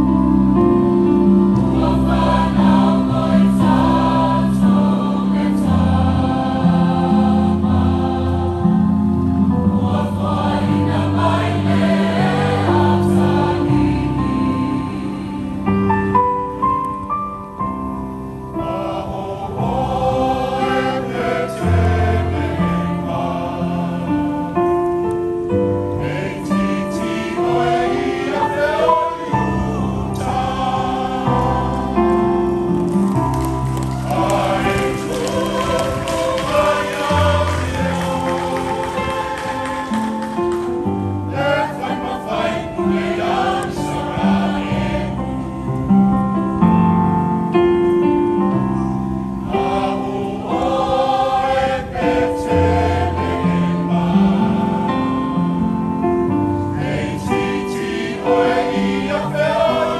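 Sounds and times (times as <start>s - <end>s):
choir singing a carol: 0.0s - 16.6s, 18.2s - 59.9s.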